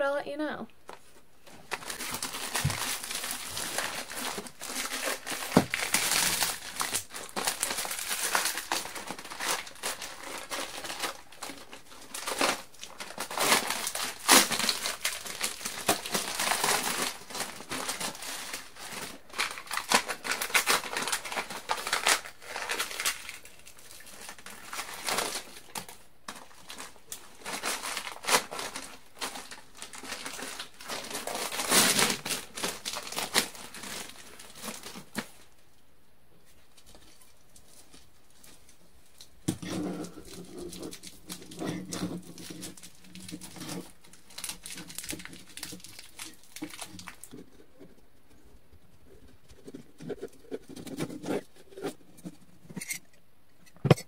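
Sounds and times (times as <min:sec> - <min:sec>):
wire mesh crinkling and rattling: 0:01.5 - 0:35.4, 0:36.6 - 0:53.1.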